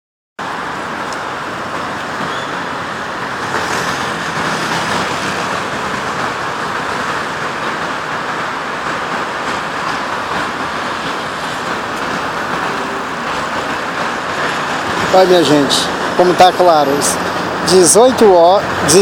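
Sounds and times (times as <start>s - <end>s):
road traffic passing: 0.4s - 19.0s.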